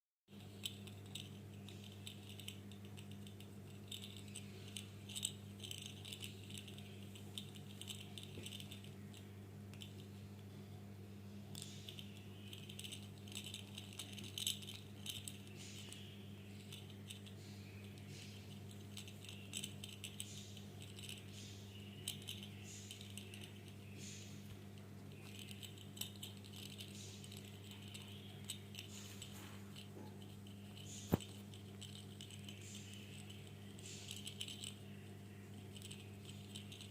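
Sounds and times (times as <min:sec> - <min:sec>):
ball toy rattling and clicking: 0:00.3 - 0:10.2, 0:11.5 - 0:36.9
low hum: 0:00.3 - 0:36.9.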